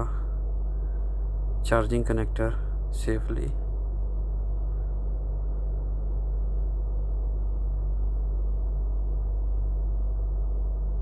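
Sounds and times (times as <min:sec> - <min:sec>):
buzzy electrical hum: 0:00.0 - 0:11.0.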